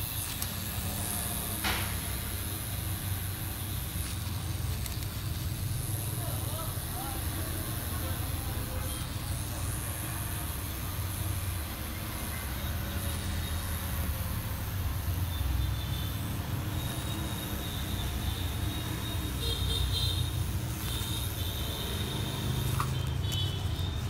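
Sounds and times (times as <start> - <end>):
tattoo machine running: 0.0 - 24.0.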